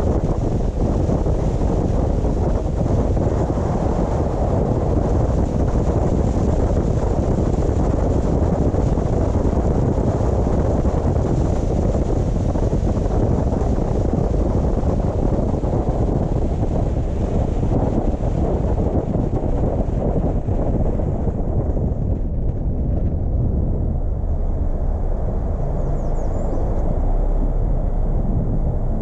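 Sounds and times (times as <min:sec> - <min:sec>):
car road rumble: 0:00.0 - 0:29.0
wind on microphone: 0:00.0 - 0:29.0.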